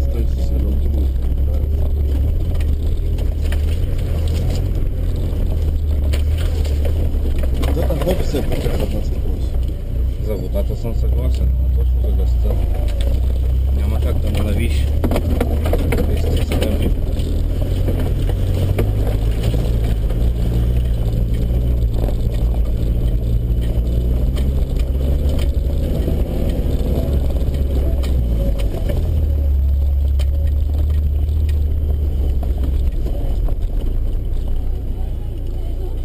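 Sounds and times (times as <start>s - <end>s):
body and suspension rattles: 0.0s - 36.0s
diesel engine drone: 0.0s - 36.0s.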